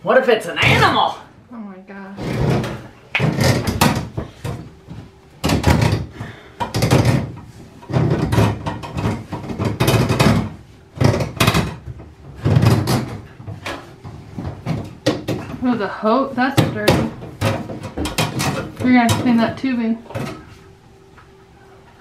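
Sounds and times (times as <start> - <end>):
hose knocking and scraping in metal duct: 2.2 - 20.6.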